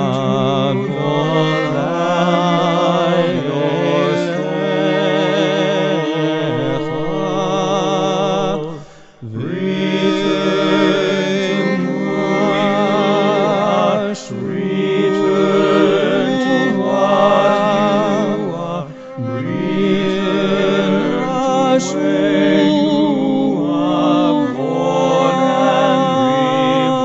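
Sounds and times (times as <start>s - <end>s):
cantor singing chant: 0.0s - 27.0s.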